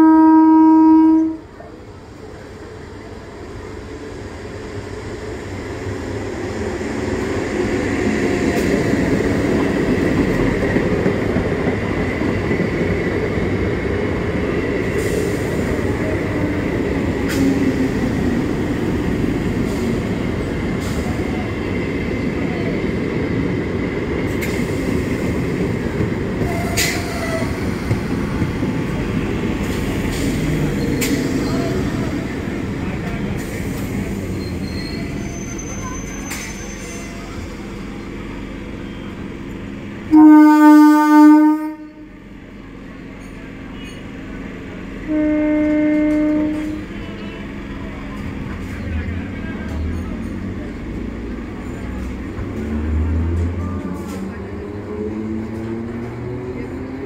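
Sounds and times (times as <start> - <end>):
train wheels rumbling on rails: 0.8 - 57.0.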